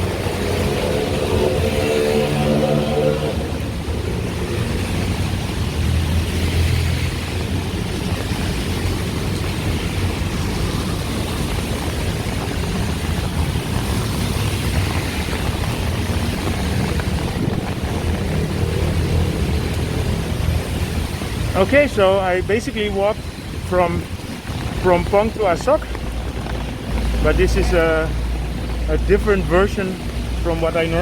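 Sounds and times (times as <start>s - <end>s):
traffic engine rumble: 0.0s - 31.0s
tyres hissing on wet road: 0.0s - 31.0s.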